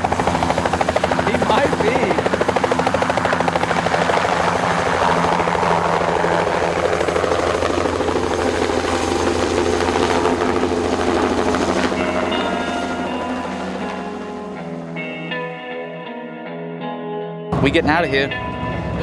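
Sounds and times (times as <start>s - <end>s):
helicopter lifting off: 0.0s - 16.8s, 17.5s - 19.0s.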